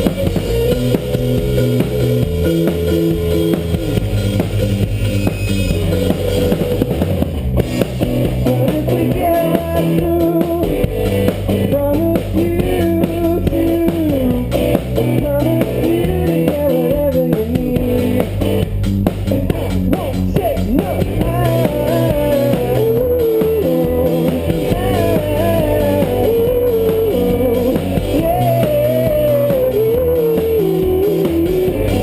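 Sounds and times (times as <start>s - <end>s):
electric guitar melody: 0.0s - 19.8s, 21.0s - 32.0s
bass guitar: 0.0s - 32.0s
drum kit: 0.0s - 32.0s.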